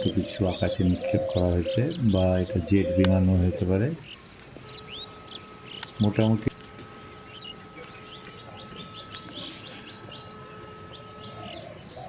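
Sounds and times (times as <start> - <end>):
faint steady drone: 0.0 - 12.0
small birds chirping: 0.0 - 12.0.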